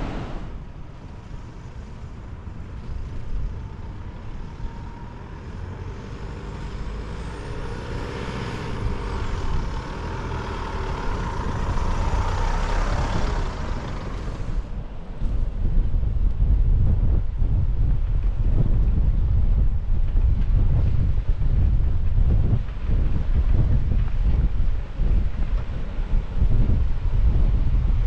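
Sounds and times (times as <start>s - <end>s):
vehicle engine and road noise: 0.0s - 28.0s.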